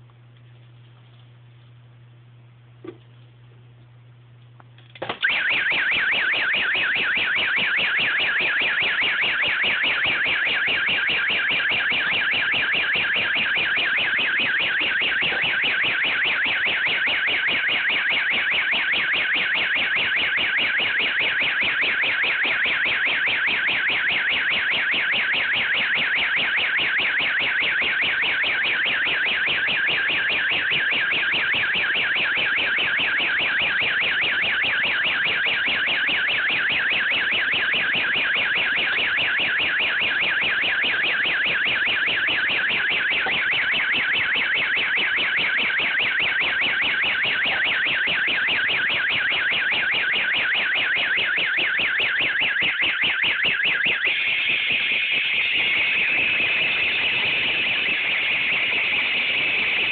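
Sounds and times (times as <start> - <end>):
fire alarm pulsing tone: 5.0 - 59.9.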